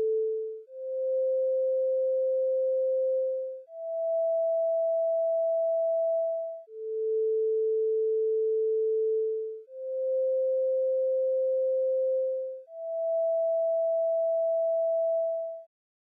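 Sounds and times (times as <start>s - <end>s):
electronic sine tones: 0.0s - 15.7s.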